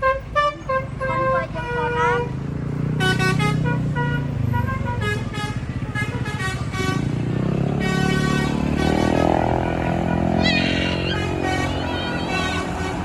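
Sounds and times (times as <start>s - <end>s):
bus engine running: 0.0s - 13.0s
melodic multi-tone bus horn: 0.0s - 13.0s.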